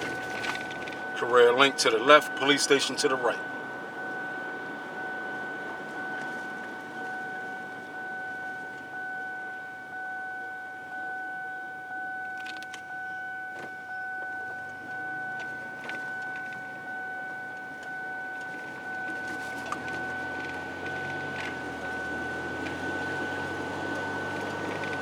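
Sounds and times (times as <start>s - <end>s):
car cabin noise: 0.0s - 25.0s
steady high-pitched whine: 0.0s - 25.0s.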